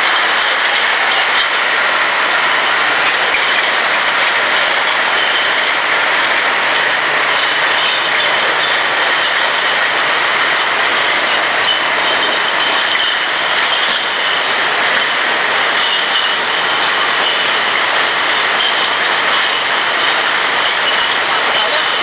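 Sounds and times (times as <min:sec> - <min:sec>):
bottle washing machine clattering: 0:00.0 - 0:22.0.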